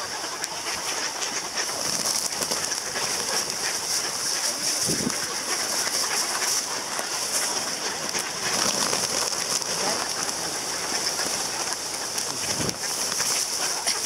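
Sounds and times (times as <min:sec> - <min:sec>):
birds pecking grain: 0:00.0 - 0:14.0
fluttering wings: 0:00.0 - 0:14.0.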